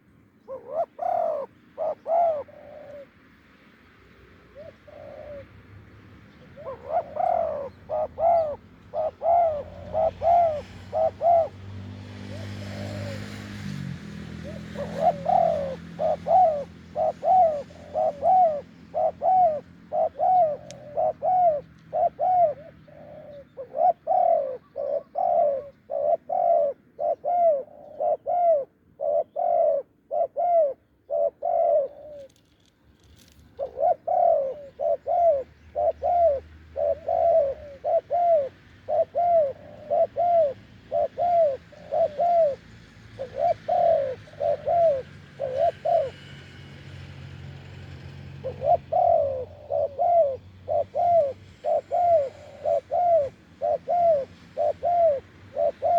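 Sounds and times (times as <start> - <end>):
doves cooing: 0.0 - 3.3, 4.1 - 5.7, 6.3 - 32.6, 33.2 - 55.9.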